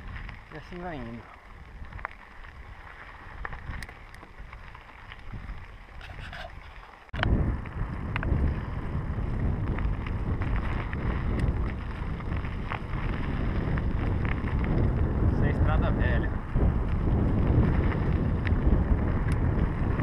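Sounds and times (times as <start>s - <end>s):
bike clicks and rattles: 0.0s - 20.0s
bike tyres rolling over asphalt and dirt: 0.0s - 20.0s
wind rumbling on microphone: 0.0s - 20.0s.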